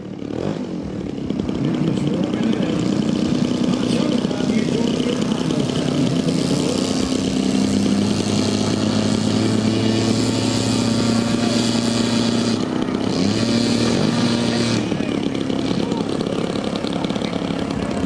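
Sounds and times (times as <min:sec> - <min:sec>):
model airplane engine running: 0:00.0 - 0:18.0.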